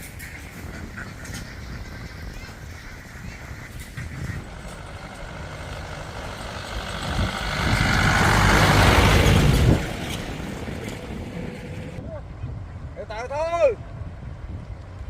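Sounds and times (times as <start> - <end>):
motor vehicle running: 0.0 - 12.4.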